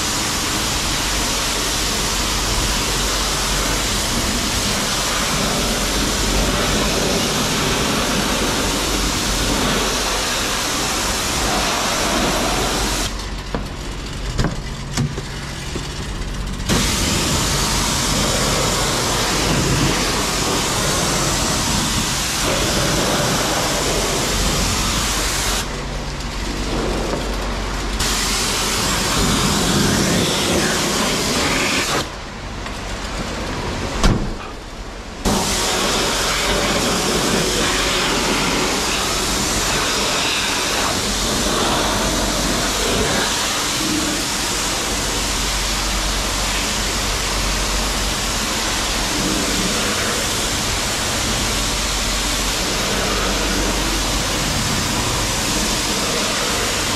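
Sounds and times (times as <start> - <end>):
pressure washer spray hissing: 0.0 - 13.2, 16.7 - 25.8, 28.0 - 32.1, 35.2 - 56.9.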